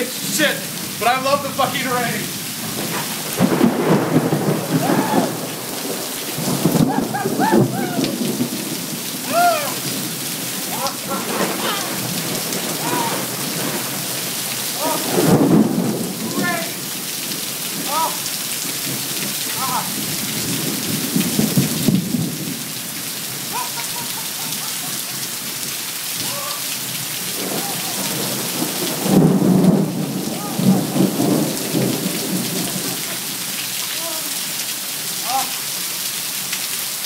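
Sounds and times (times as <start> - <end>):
heavy rain pouring: 0.0 - 37.0
thunder rumbling: 2.6 - 25.6, 26.2 - 33.5.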